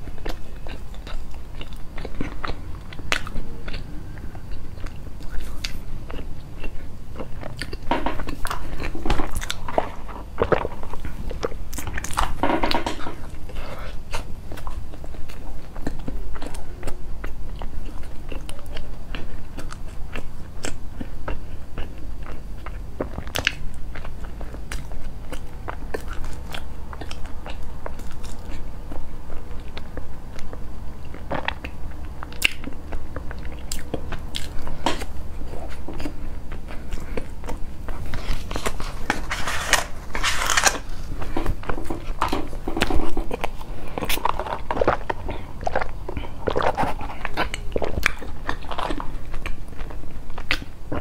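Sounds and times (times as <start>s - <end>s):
chewing crisp pastry: 0.0s - 51.0s.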